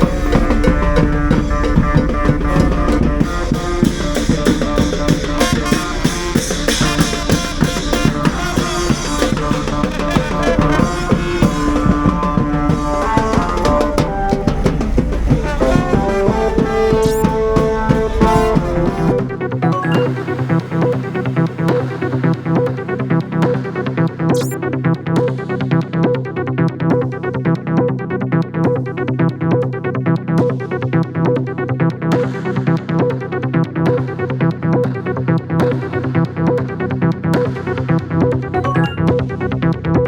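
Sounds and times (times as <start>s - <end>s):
background music with drum beat: 0.0s - 40.0s.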